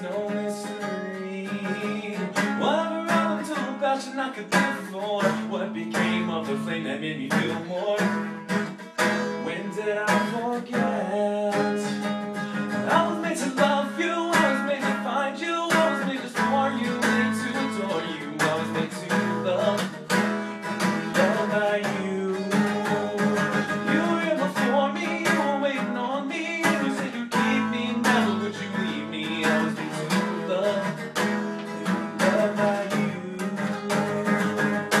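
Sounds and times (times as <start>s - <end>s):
instrumental rock song: 0.0s - 35.0s.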